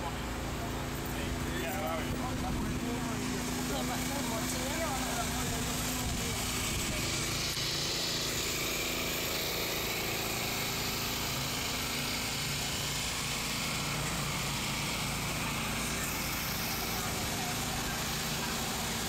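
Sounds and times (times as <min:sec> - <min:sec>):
engine humming: 0:00.0 - 0:19.0
outdoor noise: 0:00.0 - 0:19.0.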